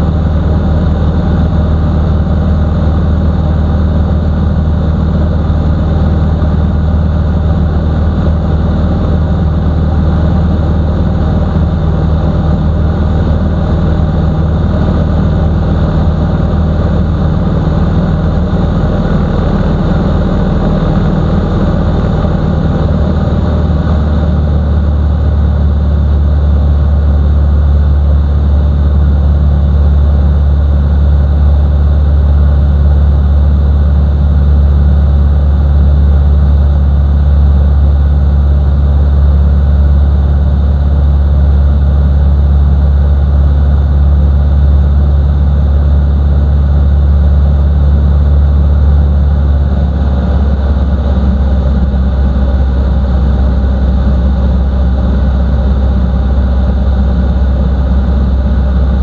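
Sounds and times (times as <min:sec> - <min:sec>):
propeller aircraft engine drone: 0:00.0 - 0:59.0.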